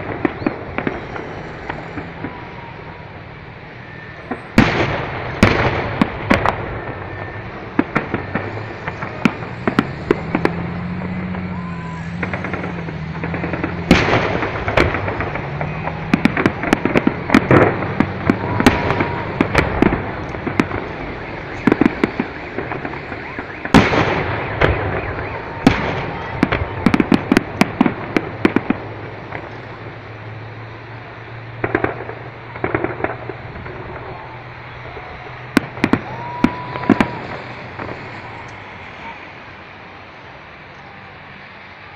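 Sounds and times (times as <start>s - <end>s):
fireworks bangs and crackles: 0.0s - 41.9s
road traffic hum: 0.0s - 41.9s.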